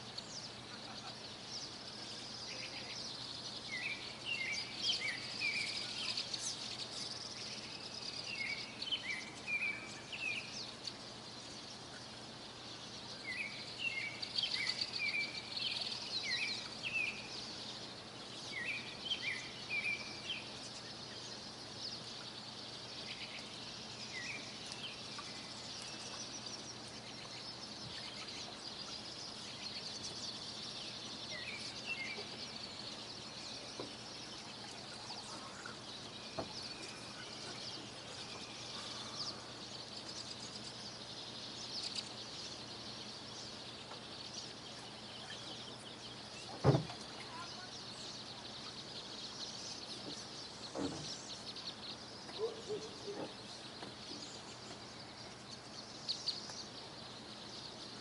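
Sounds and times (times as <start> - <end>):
faint background hiss: 0.0 - 58.0
songbirds chirping and trilling: 0.0 - 58.0.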